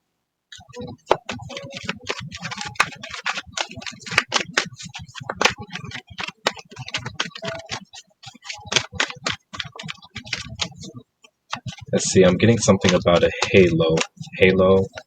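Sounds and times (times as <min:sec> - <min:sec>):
cards being shuffled: 0:00.6 - 0:15.0.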